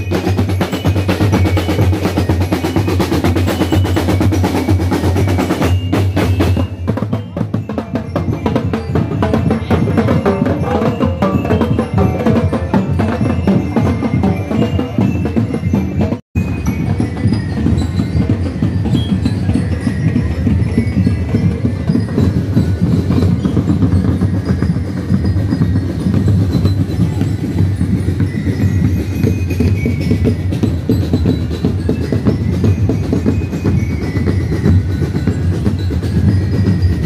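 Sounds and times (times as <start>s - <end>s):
percussion band drumming: 0.0s - 37.0s.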